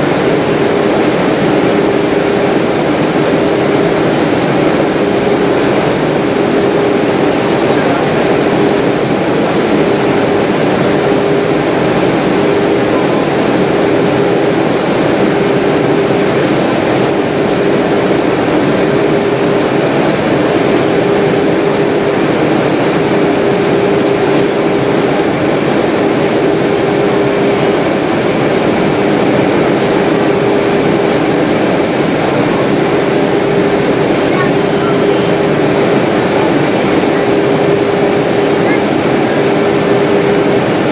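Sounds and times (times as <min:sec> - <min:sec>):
airliner cabin noise: 0:00.0 - 0:40.9.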